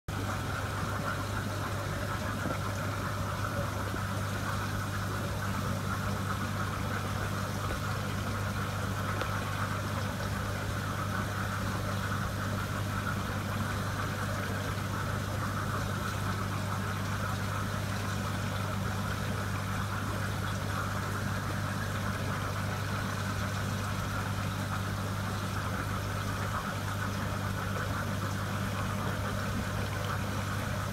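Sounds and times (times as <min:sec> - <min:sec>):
aquarium equipment hum: 0:00.1 - 0:30.9.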